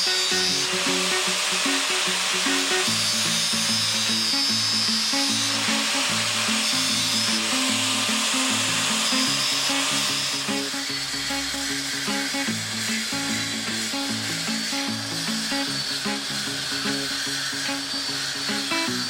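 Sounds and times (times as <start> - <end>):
power tool whining on steel rod: 0.0 - 19.0.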